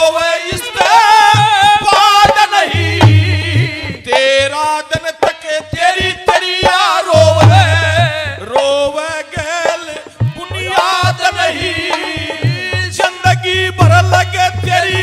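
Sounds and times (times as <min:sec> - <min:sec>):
harmonium: 0:00.0 - 0:15.0
man singing: 0:00.0 - 0:15.0.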